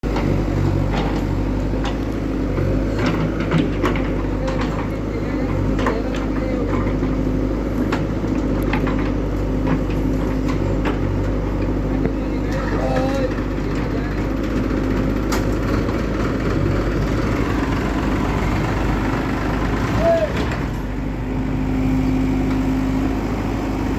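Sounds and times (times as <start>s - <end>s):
diesel engine running under load: 0.0s - 23.9s
knocks and clanks: 0.1s - 21.0s.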